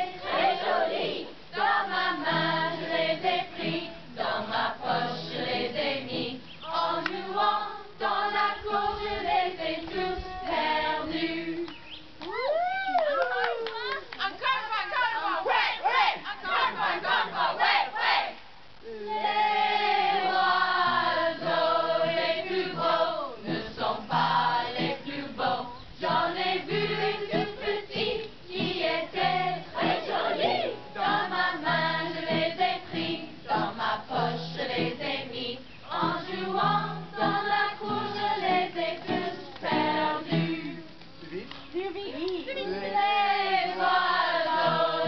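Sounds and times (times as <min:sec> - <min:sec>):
children and adults singing: 0:00.0 - 0:12.0, 0:15.4 - 0:41.1, 0:42.6 - 0:45.0.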